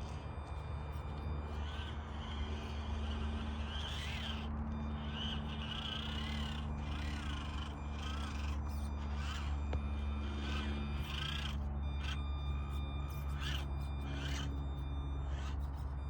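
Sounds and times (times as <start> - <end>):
steady low hum: 0.0 - 16.0
wavering animal cries: 0.0 - 16.0.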